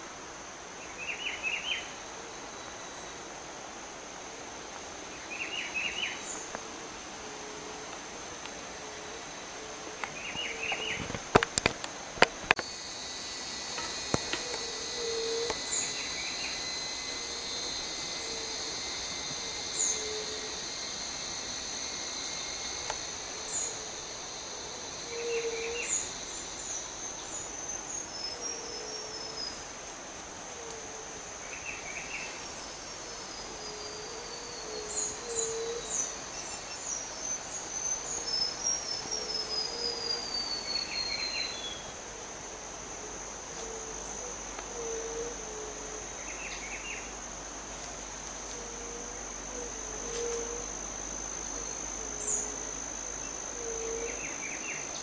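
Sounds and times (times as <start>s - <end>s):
high insect drone: 0.0s - 55.0s.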